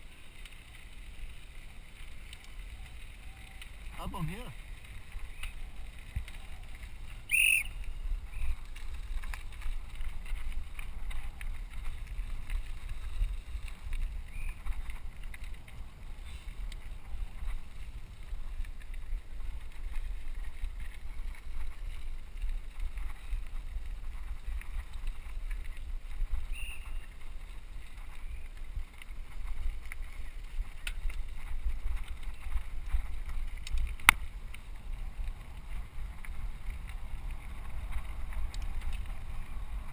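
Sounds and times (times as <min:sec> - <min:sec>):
bike rumbling over gravel: 0:00.0 - 0:39.9.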